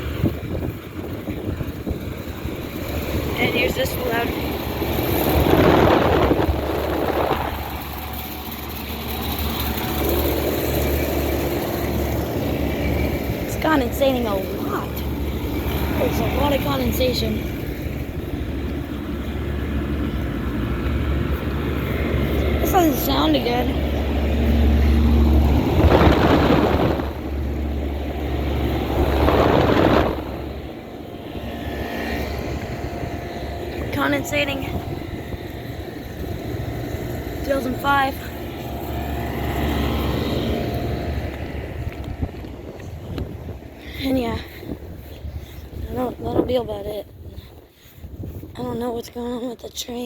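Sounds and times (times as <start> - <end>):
fan noise rushing: 0.0 - 49.3
compressor hum: 0.0 - 49.4.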